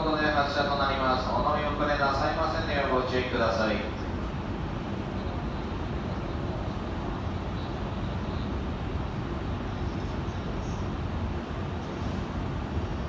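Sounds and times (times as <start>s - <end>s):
station background noise: 0.0s - 13.0s
stationary train humming: 0.0s - 13.0s.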